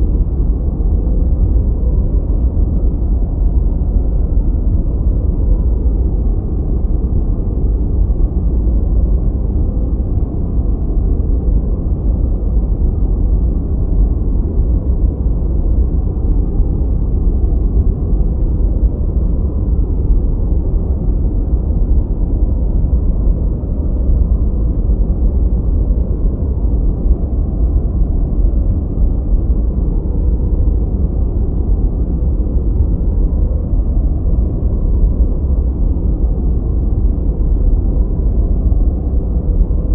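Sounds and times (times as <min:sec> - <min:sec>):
low rumbling brown noise hiss: 0:00.0 - 0:39.9.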